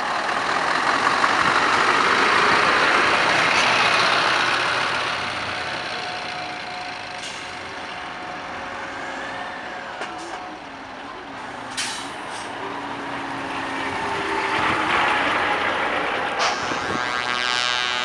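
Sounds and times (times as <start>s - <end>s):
truck diesel engine: 0.0s - 18.0s.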